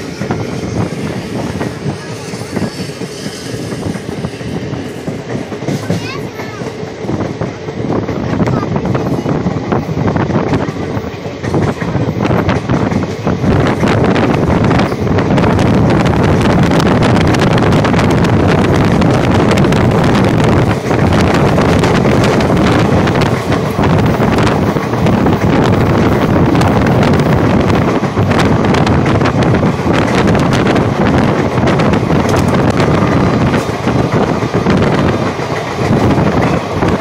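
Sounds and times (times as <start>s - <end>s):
rail clicks: 0.0s - 37.0s
train wheels rumbling on rails: 0.0s - 37.0s
wind buffeting microphone: 0.0s - 37.0s.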